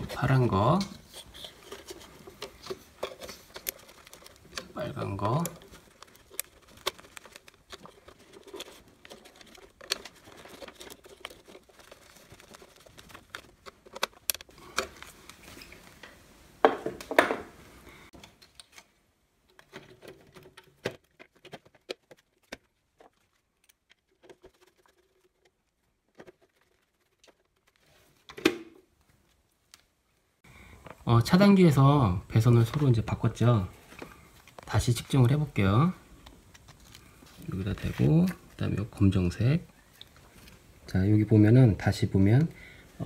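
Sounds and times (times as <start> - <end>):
wires being handled: 0.0 - 16.4, 18.1 - 30.0, 30.8 - 40.9.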